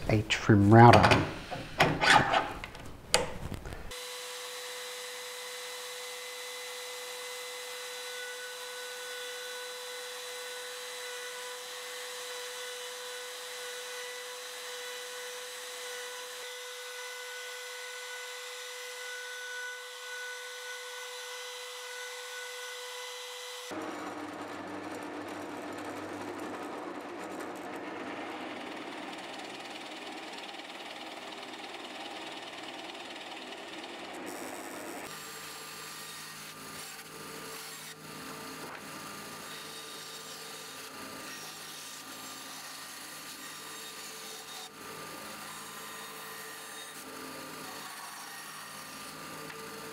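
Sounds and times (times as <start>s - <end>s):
router high whine: 0.0s - 49.9s
drill press boring wood: 3.9s - 49.9s.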